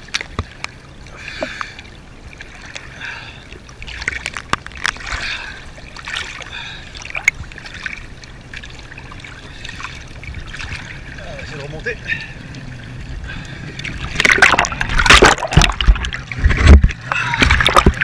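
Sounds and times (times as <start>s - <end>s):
sea water splashing: 0.0s - 18.0s.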